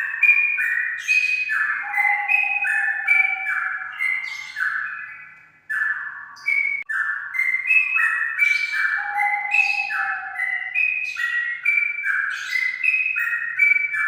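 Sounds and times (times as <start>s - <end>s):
bird singing whistled notes: 0.0s - 14.0s.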